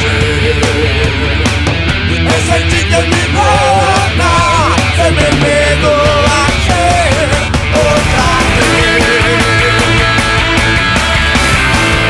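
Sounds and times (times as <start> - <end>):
bass guitar: 0.0 - 12.0
distorted electric guitar: 0.0 - 12.0
steady drum beat: 0.0 - 12.0.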